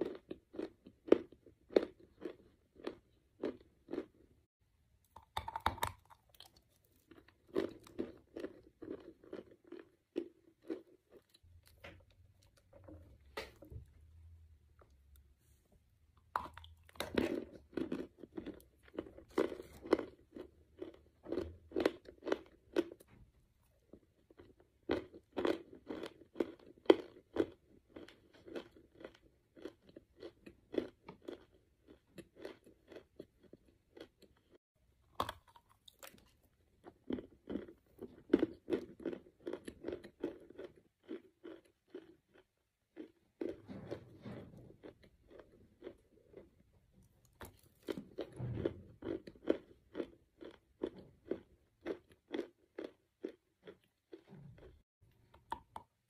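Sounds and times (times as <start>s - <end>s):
crunching and chewing: 0.0s - 4.3s, 5.1s - 14.1s, 16.2s - 56.0s.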